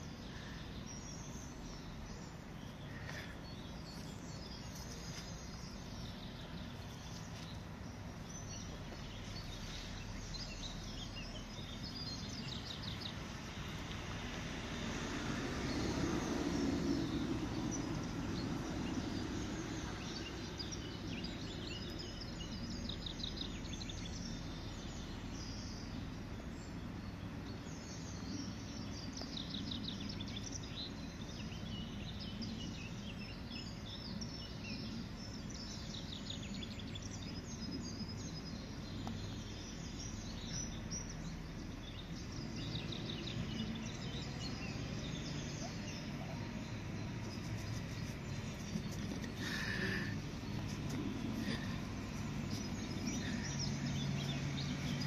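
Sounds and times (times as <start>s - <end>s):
low outdoor background rumble: 0.0s - 55.0s
small birds chirping and trilling: 0.0s - 55.0s.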